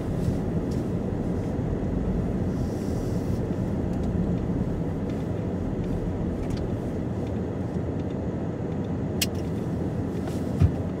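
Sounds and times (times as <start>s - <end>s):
car rolling low rumble: 0.0s - 11.0s.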